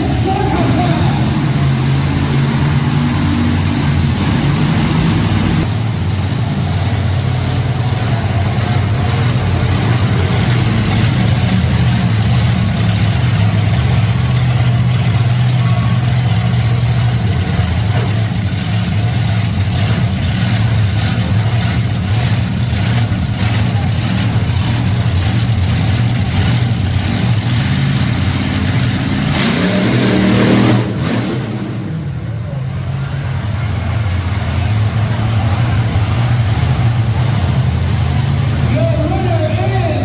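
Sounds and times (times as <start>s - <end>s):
truck engines revving: 0.0s - 40.0s.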